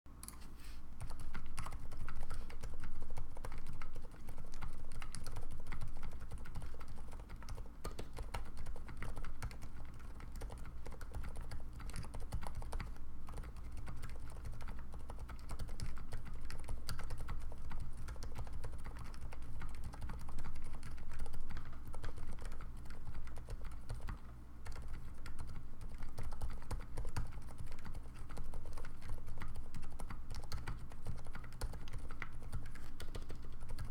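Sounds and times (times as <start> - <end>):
dampened keyboard typing: 0.2 - 33.9.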